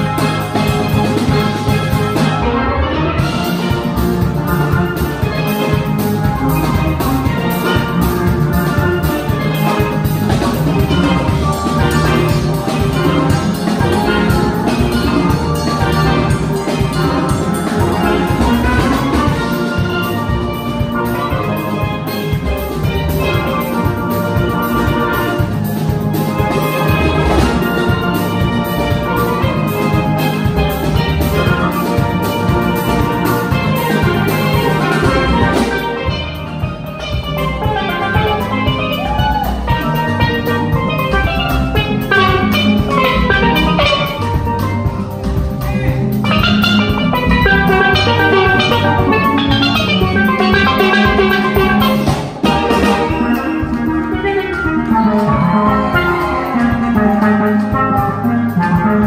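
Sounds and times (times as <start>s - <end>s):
drum kit: 0.0s - 59.0s
steelpans playing ringing notes: 0.0s - 59.0s.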